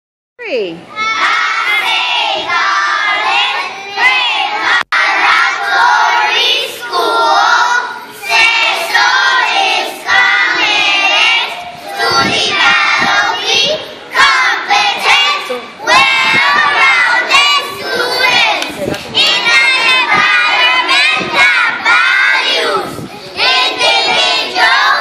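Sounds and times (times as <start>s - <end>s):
children singing in unison: 1.0s - 25.0s.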